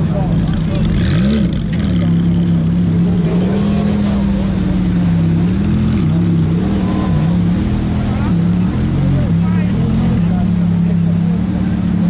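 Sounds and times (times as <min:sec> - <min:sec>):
sports car engine idling: 0:00.0 - 0:12.0.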